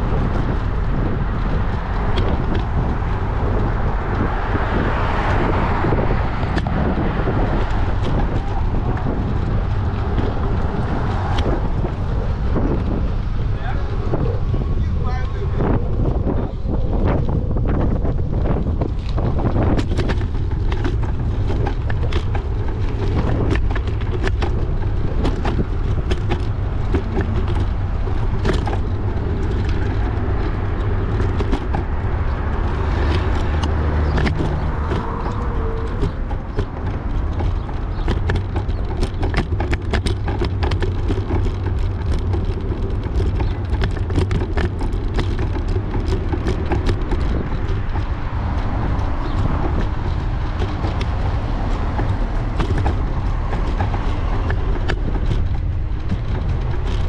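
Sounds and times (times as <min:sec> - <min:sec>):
bike clicks and rattles: 0:00.0 - 0:57.0
wind buffeting microphone: 0:00.0 - 0:57.0.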